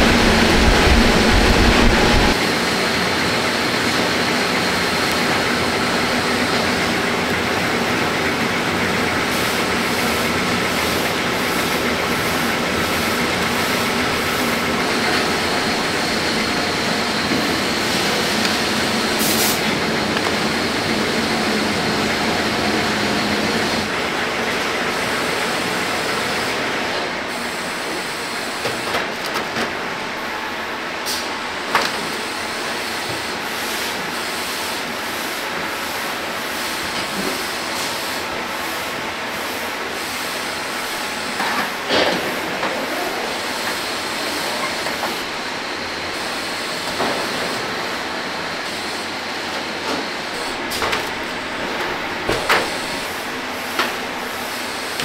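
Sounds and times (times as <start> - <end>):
factory machinery hiss and hum: 0.0 - 55.0.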